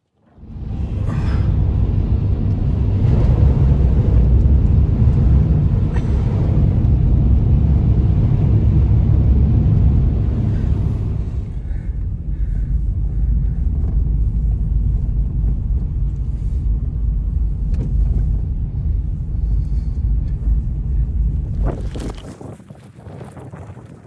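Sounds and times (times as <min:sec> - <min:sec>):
wind buffeting microphone: 0:00.4 - 0:24.0.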